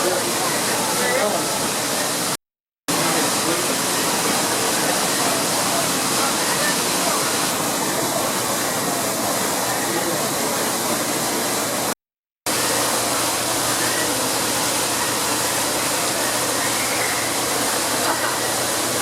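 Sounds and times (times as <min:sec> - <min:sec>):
falling water rushing: 0:00.0 - 0:19.0.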